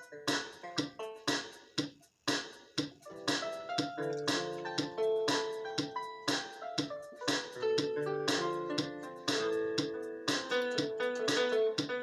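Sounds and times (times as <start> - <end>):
plucked instrumental music: 0.0 - 1.6, 3.1 - 12.0.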